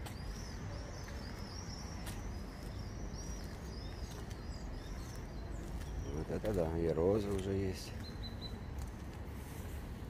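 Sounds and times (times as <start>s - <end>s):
small songbirds chirping: 0.0s - 10.0s.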